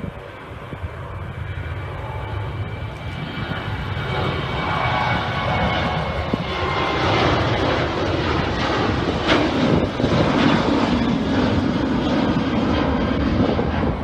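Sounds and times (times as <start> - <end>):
jet engines roaring overhead: 0.0 - 14.0.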